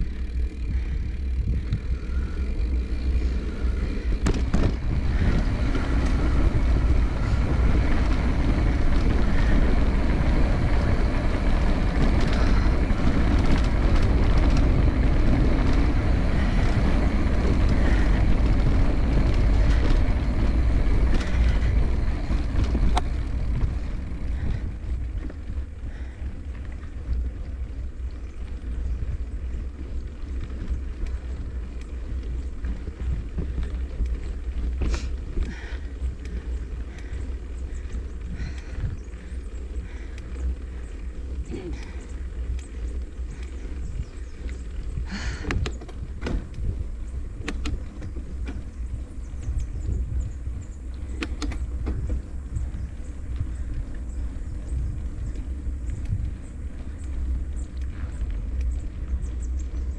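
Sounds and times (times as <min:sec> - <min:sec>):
bike rolling on concrete: 0:00.0 - 0:59.9
wind buffeting microphone: 0:00.0 - 0:59.9.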